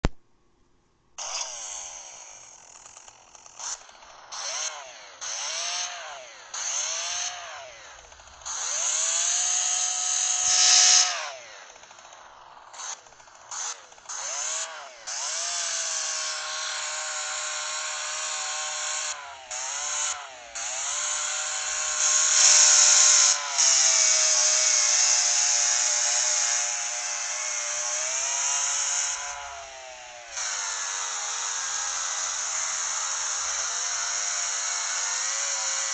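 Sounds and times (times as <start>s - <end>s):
chainsaw engine revving: 1.2s - 35.9s.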